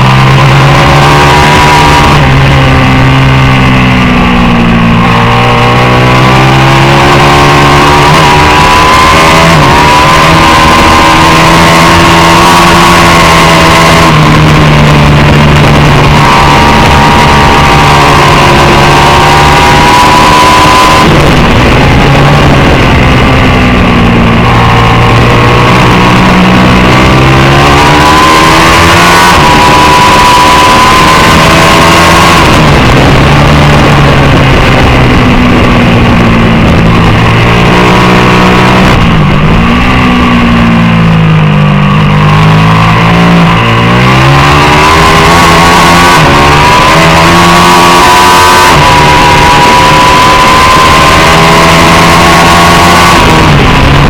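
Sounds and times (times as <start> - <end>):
racing motorcycle engine revving: 0.0 - 54.0.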